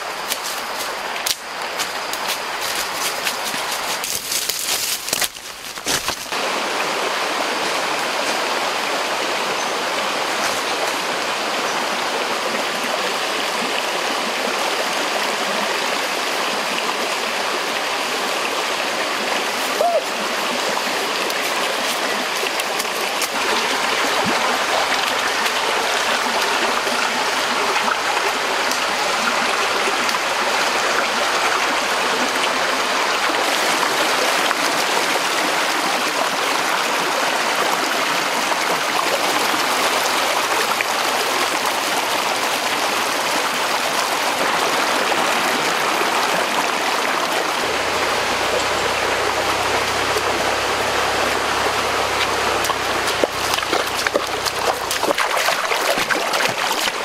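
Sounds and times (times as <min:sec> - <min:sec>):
stream water flowing over rocks: 0:00.0 - 0:57.0.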